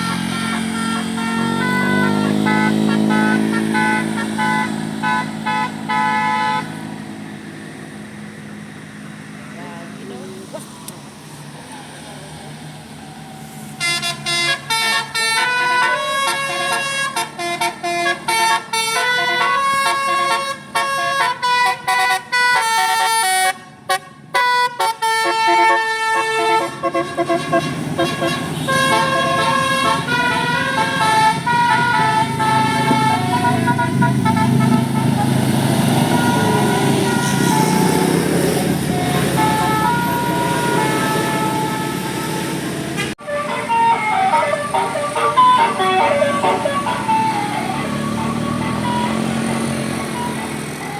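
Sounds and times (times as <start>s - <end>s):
bus horn playing a tune: 0.0s - 7.0s, 13.8s - 50.9s
bus engine rumble: 0.0s - 50.9s.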